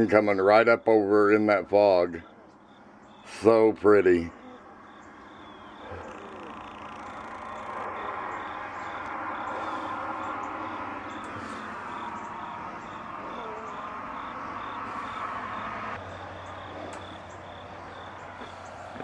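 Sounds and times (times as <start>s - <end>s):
low steady hum: 0.0s - 19.0s
outdoor background hiss: 0.0s - 19.0s
cricket chirping: 2.1s - 3.4s, 4.3s - 19.0s.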